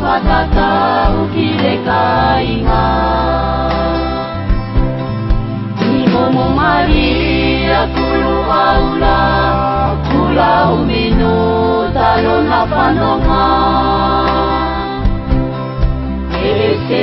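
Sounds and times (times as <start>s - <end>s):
song with vocals and bass: 0.0s - 17.0s.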